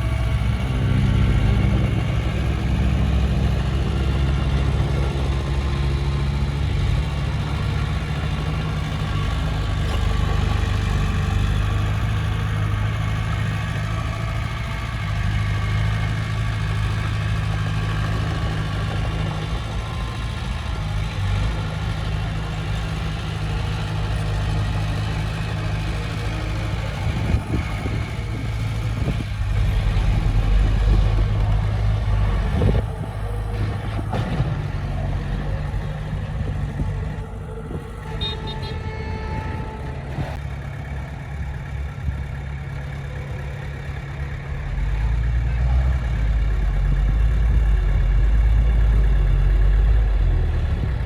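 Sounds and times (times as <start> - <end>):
diesel engine humming: 0.0 - 51.0.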